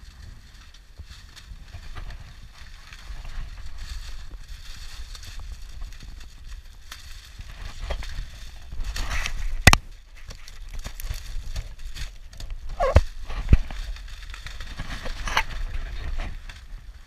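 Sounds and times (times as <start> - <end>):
low steady rumble: 0.0 - 17.0
plastic bag crinkling: 1.0 - 17.0.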